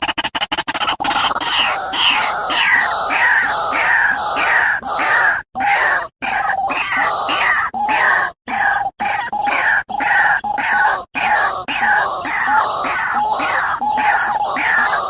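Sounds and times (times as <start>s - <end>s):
bird screeching calls: 0.7s - 15.0s.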